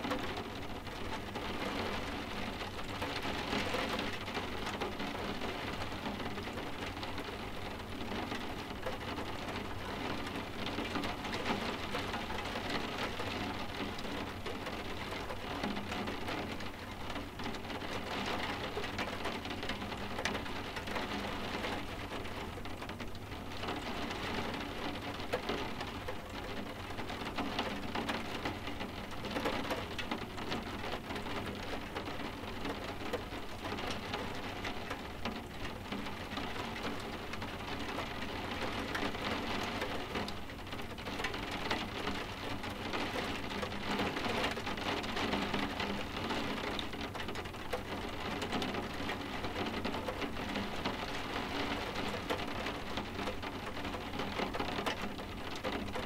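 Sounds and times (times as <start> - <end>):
rain tapping on windows: 0.0 - 56.0.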